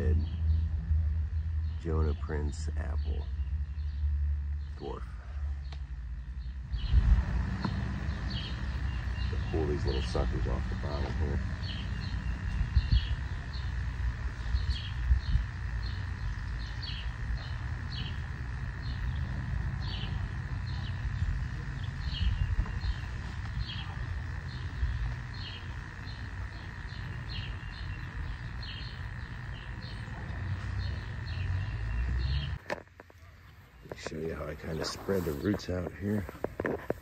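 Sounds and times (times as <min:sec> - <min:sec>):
low rumble: 0:00.0 - 0:32.6
bird chirping: 0:00.0 - 0:37.0.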